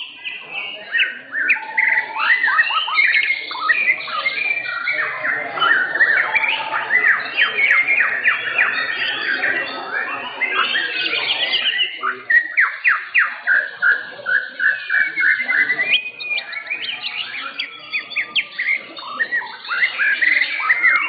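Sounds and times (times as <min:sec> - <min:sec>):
bird singing whistled notes: 0:00.0 - 0:21.0.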